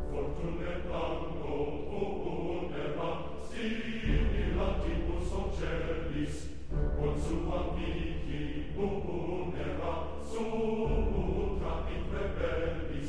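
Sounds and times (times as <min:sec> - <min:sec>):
crowd chanting and singing: 0:00.0 - 0:13.0.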